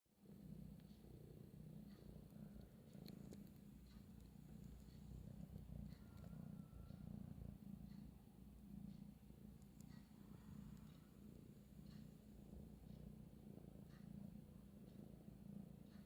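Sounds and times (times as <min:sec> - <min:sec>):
kitten purring faintly: 0:00.2 - 0:16.0.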